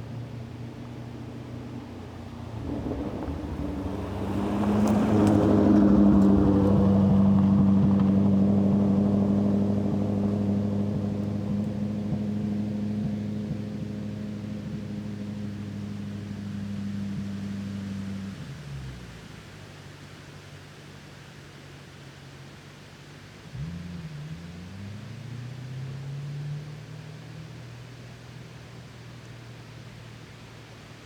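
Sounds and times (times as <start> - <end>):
car engine droning: 0.0 - 31.0.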